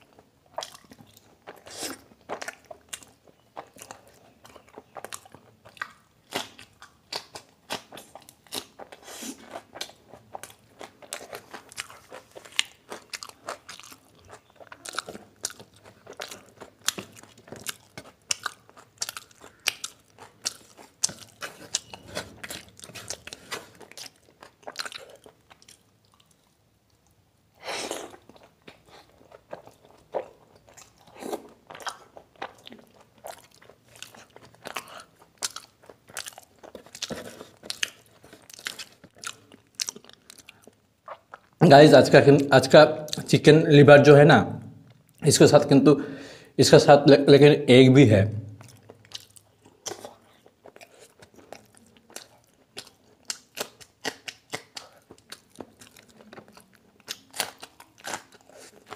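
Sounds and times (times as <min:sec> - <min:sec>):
person crunching and chewing food: 0:00.0 - 0:41.7, 0:48.5 - 0:58.9.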